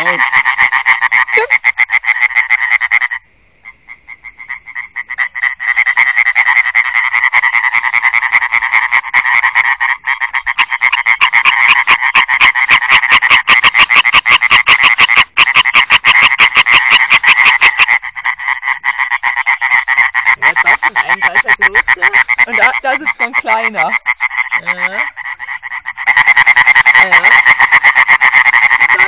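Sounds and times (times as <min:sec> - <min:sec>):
tree frogs croaking: 0:00.0 - 0:29.0.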